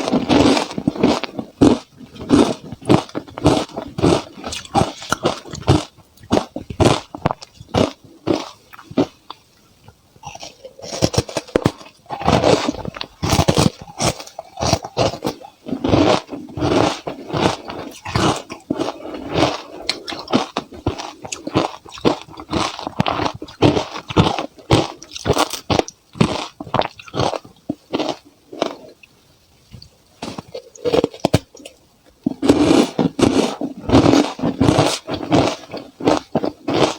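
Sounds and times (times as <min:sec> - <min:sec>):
person crunching ice cubes: 0:00.0 - 0:09.3, 0:10.2 - 0:28.9, 0:30.2 - 0:31.7, 0:32.3 - 0:36.9.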